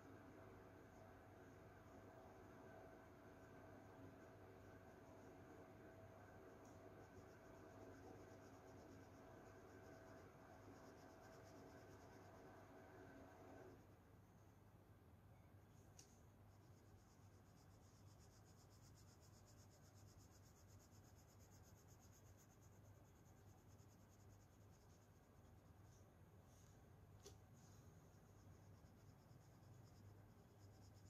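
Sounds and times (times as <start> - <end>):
colouring strokes on paper: 0.1 - 13.8, 15.9 - 31.0.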